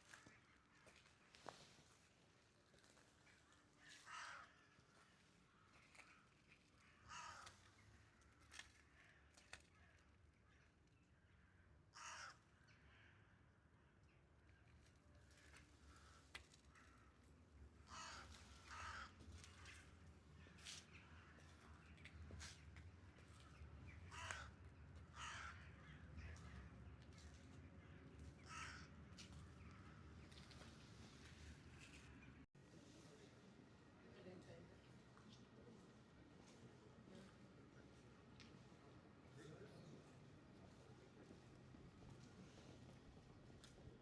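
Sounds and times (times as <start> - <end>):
low city background: 0.0 - 44.0.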